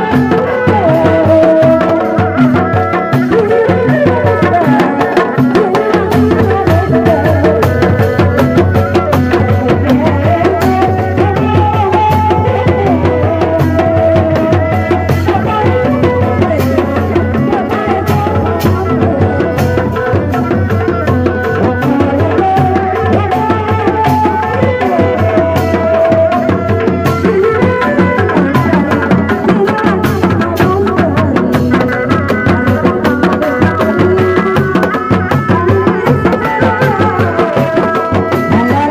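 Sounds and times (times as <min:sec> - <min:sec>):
hand-beaten drums: 0:00.0 - 0:38.9
wavering melody: 0:00.0 - 0:38.9.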